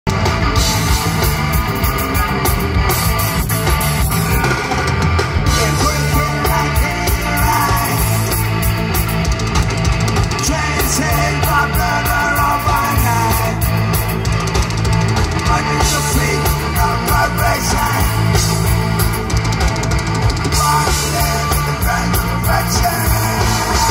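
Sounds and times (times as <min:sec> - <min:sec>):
punk rock band playing live: 0:00.0 - 0:23.9.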